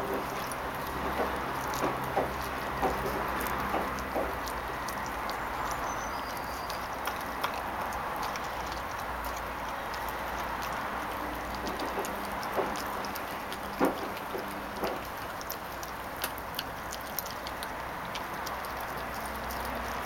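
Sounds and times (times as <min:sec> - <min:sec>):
puppy chewing bone: 0:00.0 - 0:20.0.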